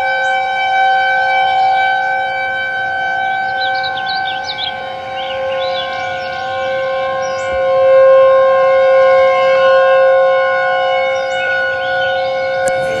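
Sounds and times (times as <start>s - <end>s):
warning siren steady chord: 0.0s - 13.0s.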